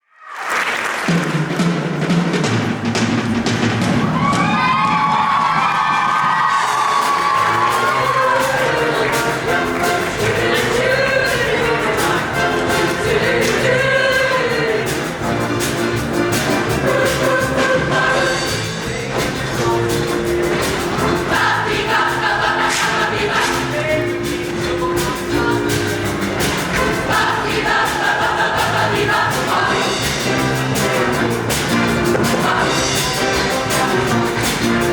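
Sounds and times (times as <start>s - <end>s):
instrumental band with steady beat: 0.9s - 34.9s
choir singing: 6.9s - 34.9s.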